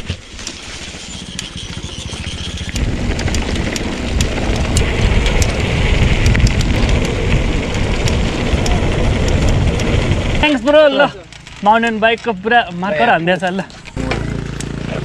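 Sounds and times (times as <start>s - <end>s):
bike clicks and rattles: 0.0s - 15.0s
tyres rushing on dirt trail: 0.0s - 15.0s.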